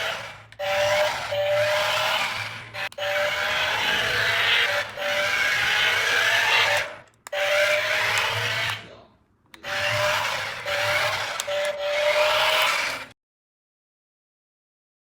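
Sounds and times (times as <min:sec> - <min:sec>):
toy car motor whirring: 0:00.0 - 0:13.2.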